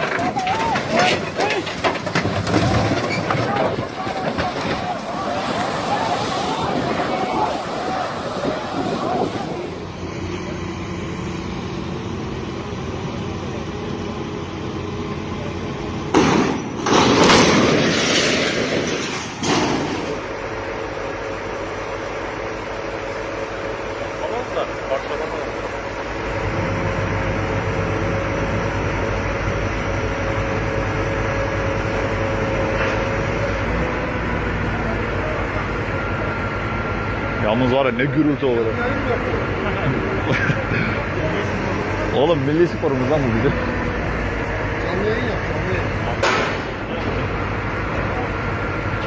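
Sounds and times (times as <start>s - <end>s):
engine hum: 0.0s - 49.0s.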